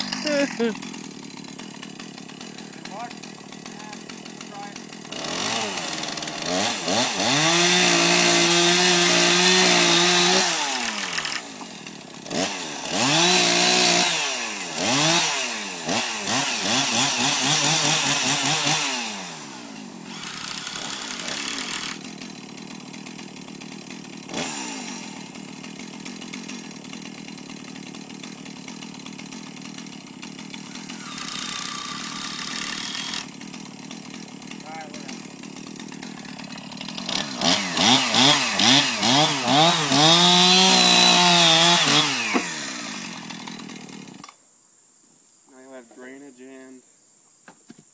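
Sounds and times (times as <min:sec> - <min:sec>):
chainsaw engine revving: 0:00.0 - 0:44.4.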